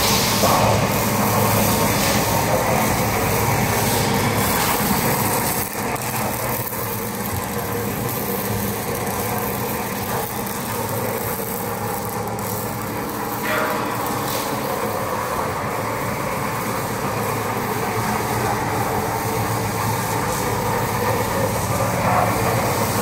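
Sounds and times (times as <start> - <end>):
mixing mill mechanical hum: 0.0 - 23.0.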